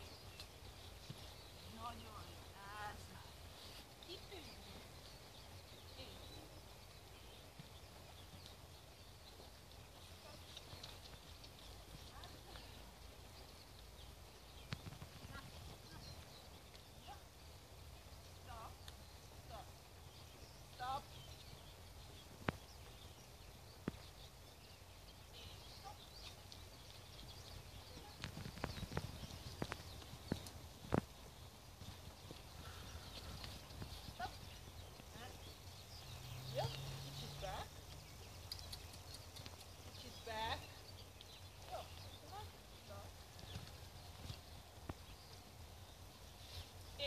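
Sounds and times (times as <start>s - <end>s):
birds chirping faintly: 0.0s - 47.0s
horse hooves trotting on sand: 0.0s - 47.0s.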